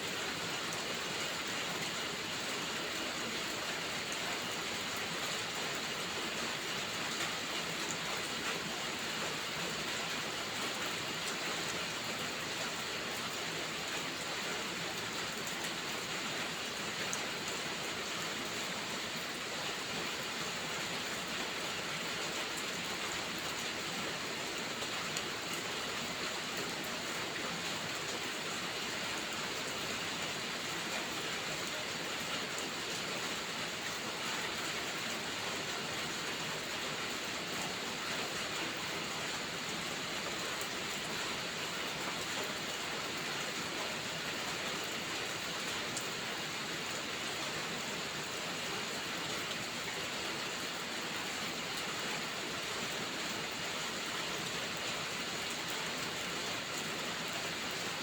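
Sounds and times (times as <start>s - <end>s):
steady rainfall hiss: 0.0s - 58.0s.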